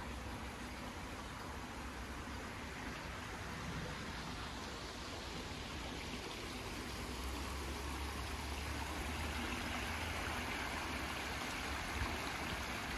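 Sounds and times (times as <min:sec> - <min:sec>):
brook babbling over stones: 0:00.0 - 0:12.9.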